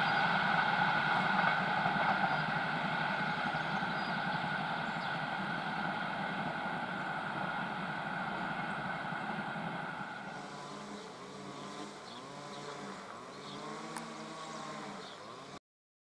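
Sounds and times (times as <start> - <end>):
passenger train rolling: 0.0 - 15.6.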